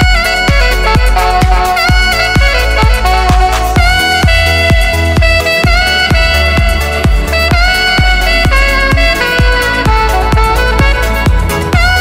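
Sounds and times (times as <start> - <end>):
dance music with kick drum: 0.0 - 12.0.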